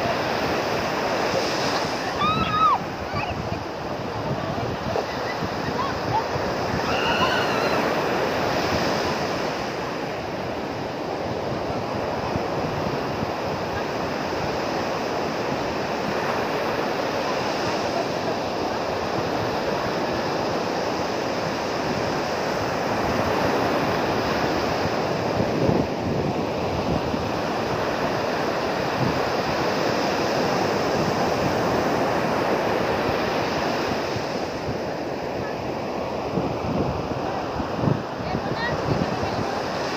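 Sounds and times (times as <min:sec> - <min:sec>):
ocean surf breaking: 0:00.0 - 0:39.9
wind buffeting microphone: 0:00.0 - 0:39.9.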